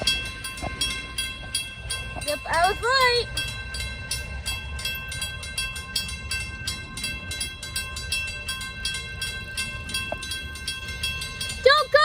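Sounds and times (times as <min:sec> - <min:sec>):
railroad crossing bell ringing: 0:00.0 - 0:12.0.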